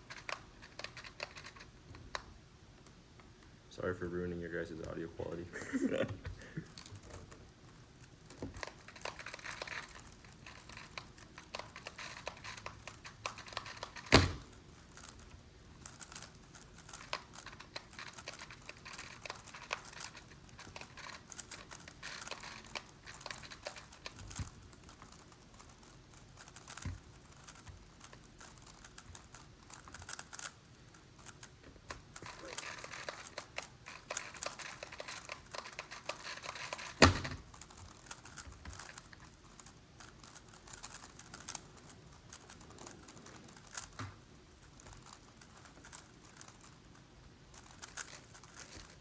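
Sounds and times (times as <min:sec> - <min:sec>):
plastic puzzle clicking: 0:00.0 - 0:02.3, 0:06.6 - 0:49.0.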